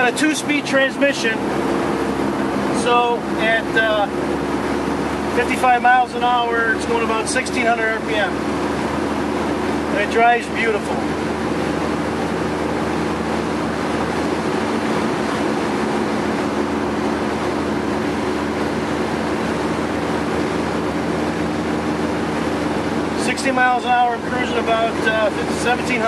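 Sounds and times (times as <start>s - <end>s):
car engine cruising drone: 0.0s - 26.0s
road and wind noise: 0.0s - 26.0s.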